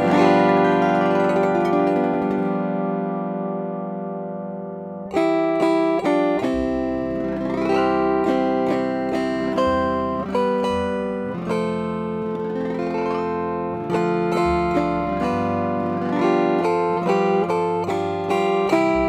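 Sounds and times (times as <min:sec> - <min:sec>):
autoharp playing a slow hymn: 0:00.0 - 0:19.0.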